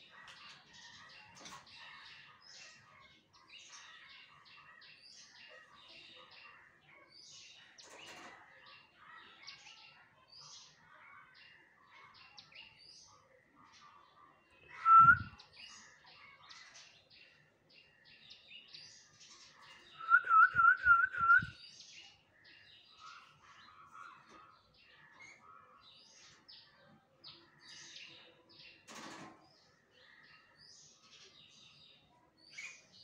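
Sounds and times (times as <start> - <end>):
faint bird chirping: 0.0 - 33.0.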